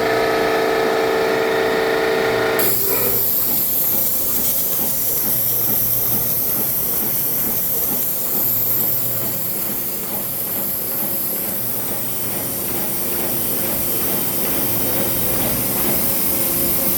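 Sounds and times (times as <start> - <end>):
air compressor running: 0.0 - 16.9.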